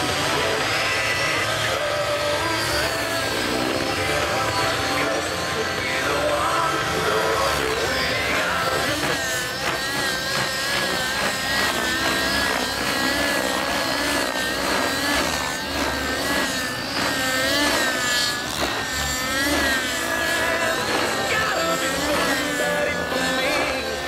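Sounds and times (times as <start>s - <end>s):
model helicopter engine and rotor: 0.0s - 24.0s.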